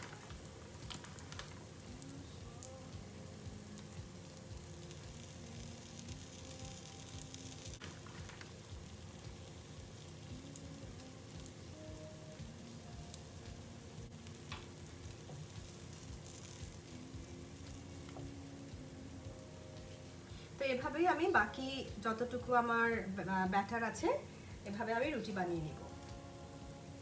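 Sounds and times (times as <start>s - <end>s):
faint background music: 0.0s - 27.0s
flatbread sizzling in pan: 0.0s - 27.0s.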